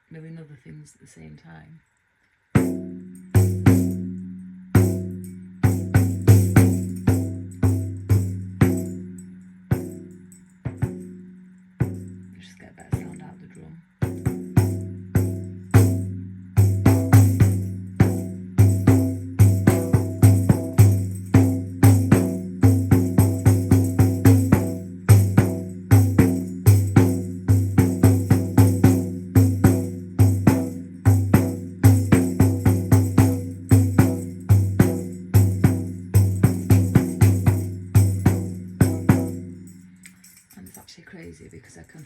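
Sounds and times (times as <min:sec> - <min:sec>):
hand drum strikes: 0:02.6 - 0:12.3, 0:14.0 - 0:39.8.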